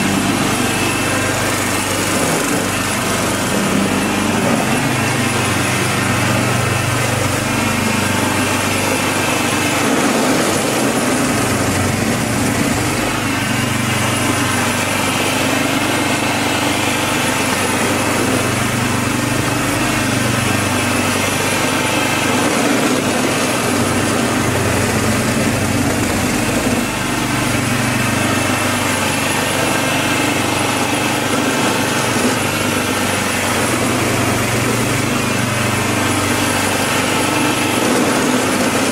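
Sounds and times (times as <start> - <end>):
small engine running under load: 0.0 - 38.9
snow blower throwing snow: 0.0 - 38.9.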